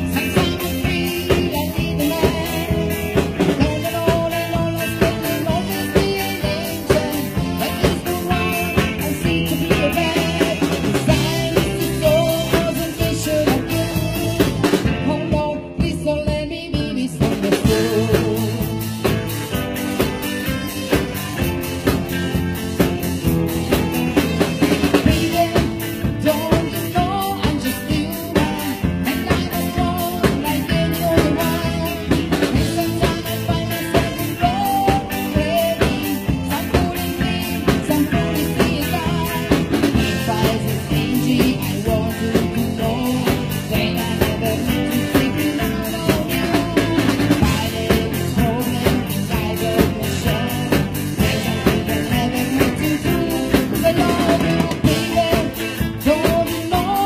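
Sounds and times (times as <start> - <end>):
live band playing: 0.0 - 57.0
steady drum beat: 0.0 - 57.0.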